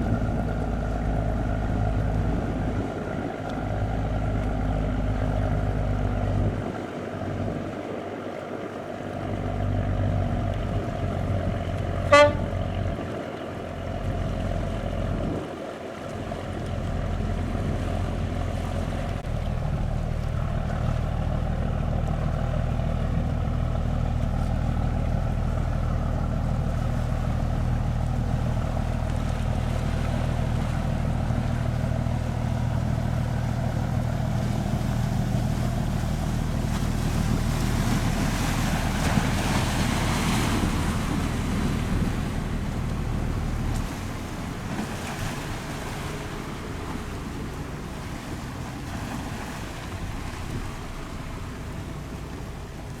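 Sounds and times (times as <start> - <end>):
boat engine humming: 0.0 - 53.0
water washing: 0.0 - 53.0.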